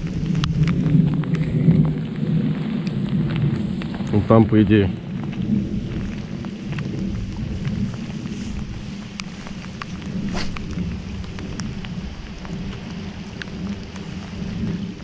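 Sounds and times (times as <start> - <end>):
low rumble: 0.0 - 15.0
rain falling: 0.0 - 15.0
raindrops ticking near microphone: 0.0 - 15.0.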